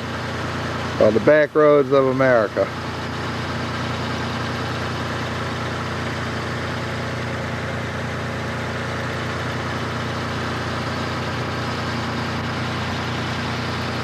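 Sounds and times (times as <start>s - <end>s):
truck engine drone: 0.0s - 14.0s.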